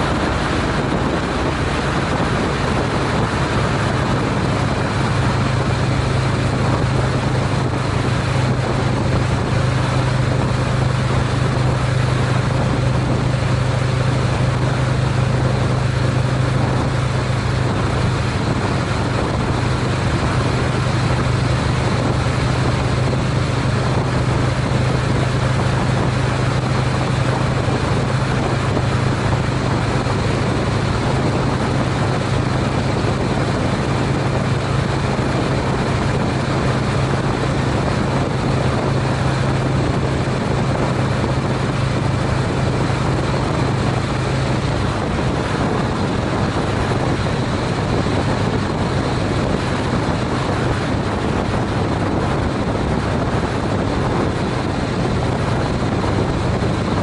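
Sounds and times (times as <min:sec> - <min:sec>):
motorcycle engine running: 0:00.0 - 0:57.0
road noise: 0:00.0 - 0:57.0
wind rush: 0:00.0 - 0:57.0.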